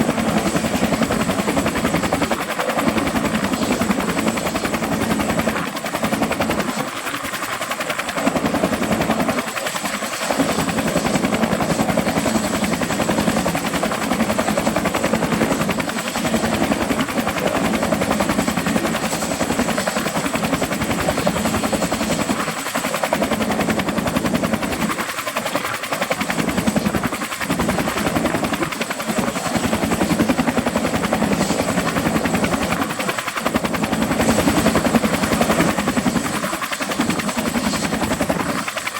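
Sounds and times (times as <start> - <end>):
helicopter engines: 0.0 - 38.9
helicopter rotor beating: 0.0 - 38.9.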